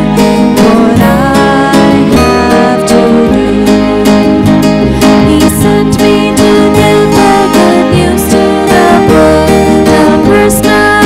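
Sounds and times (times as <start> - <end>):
strummed acoustic guitar: 0.0 - 11.0
people singing a hymn: 0.6 - 11.0.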